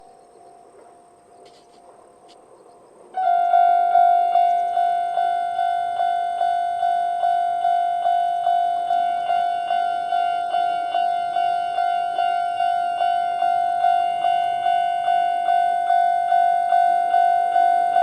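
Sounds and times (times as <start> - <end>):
level crossing warning bell: 3.2 - 18.0.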